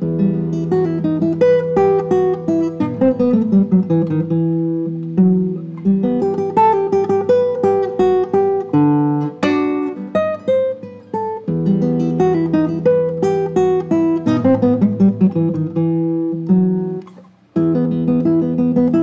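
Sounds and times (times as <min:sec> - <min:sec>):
acoustic guitar melody: 0:00.0 - 0:19.0.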